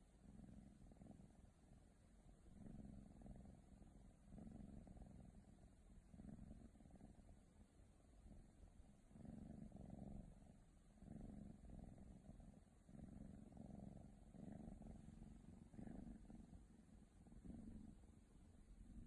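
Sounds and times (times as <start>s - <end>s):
kitten purring: 0.0s - 19.0s.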